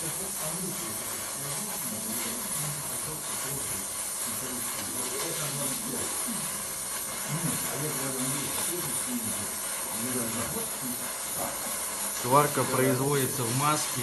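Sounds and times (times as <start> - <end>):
welding hiss: 0.0 - 14.0.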